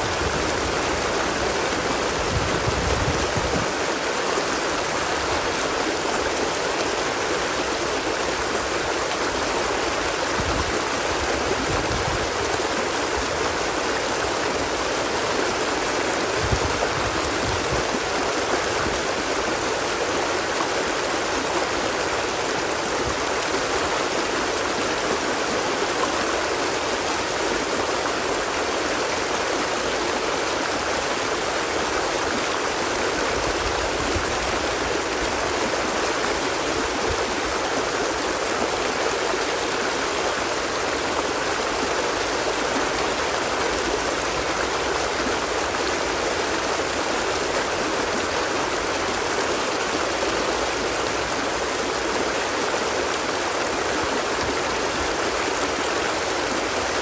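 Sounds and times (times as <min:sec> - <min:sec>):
water flowing steadily: 0:00.0 - 0:57.0.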